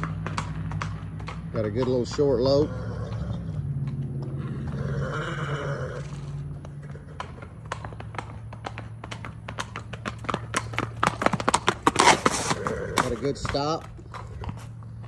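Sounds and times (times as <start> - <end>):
hoofbeats on packed dirt: 0.0 - 15.0.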